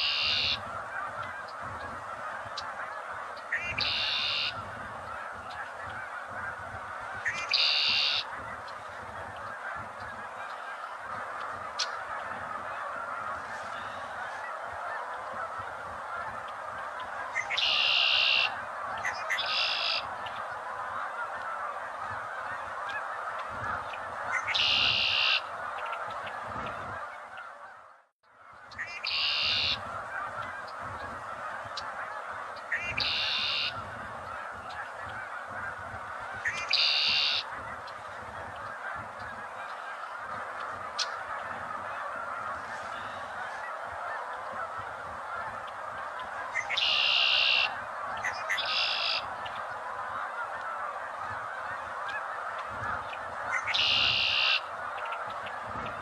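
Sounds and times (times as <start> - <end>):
din of large bird flock: 0.0 - 56.0.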